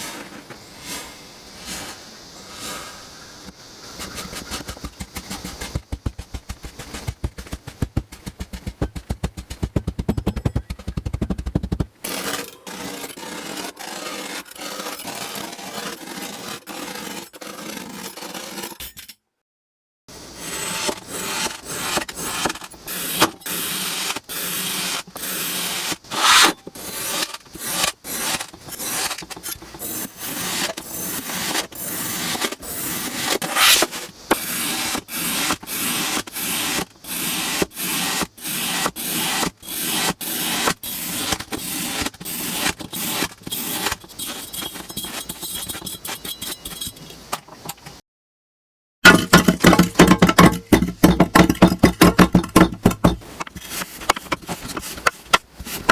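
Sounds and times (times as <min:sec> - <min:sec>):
tool scraping kinetic sand: 0:00.0 - 0:18.8, 0:20.2 - 0:47.8, 0:49.1 - 0:55.9.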